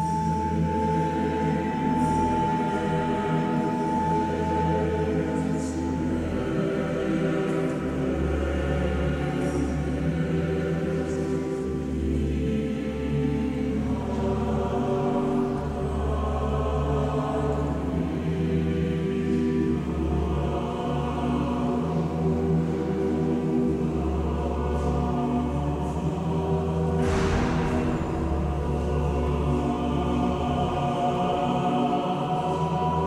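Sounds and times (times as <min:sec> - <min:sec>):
choir singing sustained chords: 0:00.0 - 0:33.0.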